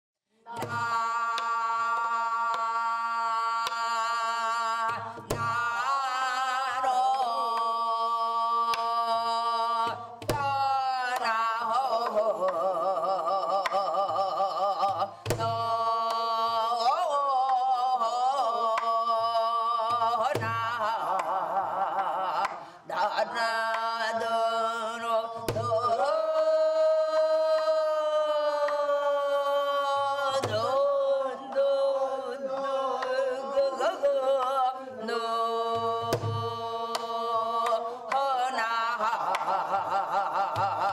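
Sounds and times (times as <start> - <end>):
wordless vocal melody: 0.4 - 40.9.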